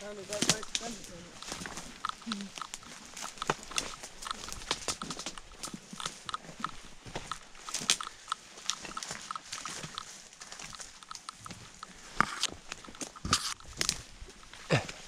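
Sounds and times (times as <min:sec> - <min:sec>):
footsteps through grass and brush: 0:00.0 - 0:15.0
twigs snapping underfoot: 0:00.2 - 0:15.0.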